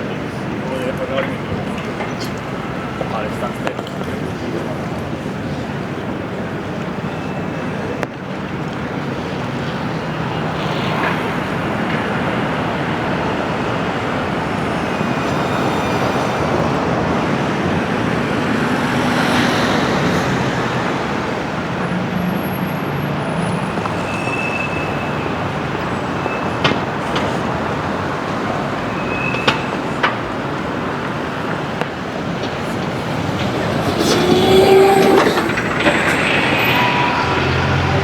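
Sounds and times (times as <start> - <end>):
vehicles passing: 0.0 - 38.0.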